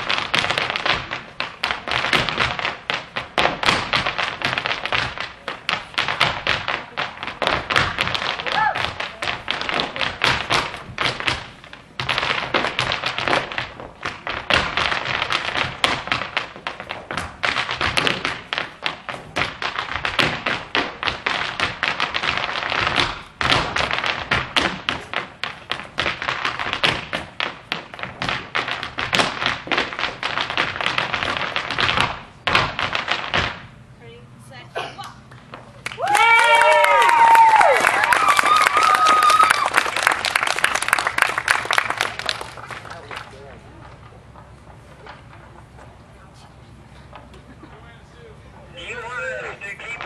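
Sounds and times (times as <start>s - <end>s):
hard shoes tapping on stage: 0.0s - 33.8s, 35.1s - 46.2s, 48.8s - 50.0s.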